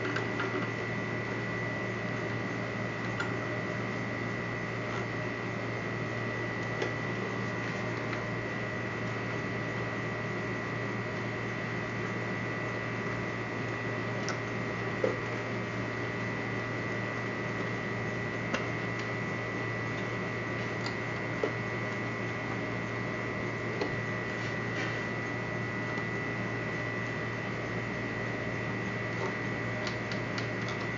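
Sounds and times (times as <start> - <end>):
electrical hum: 0.0 - 30.9.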